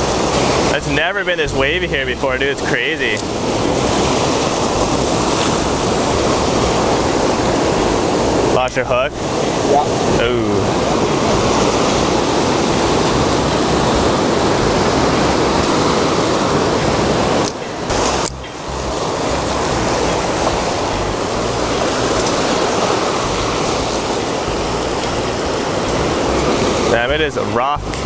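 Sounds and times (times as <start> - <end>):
heavy surf on rocky shore: 0.0 - 28.0.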